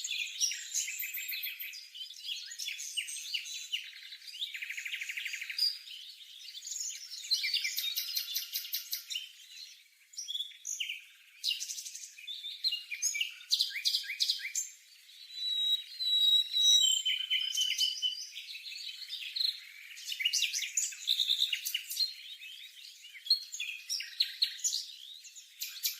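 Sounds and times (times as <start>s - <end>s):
birds chirping and trilling: 0.0s - 25.9s
whistled bird notes: 0.0s - 25.9s.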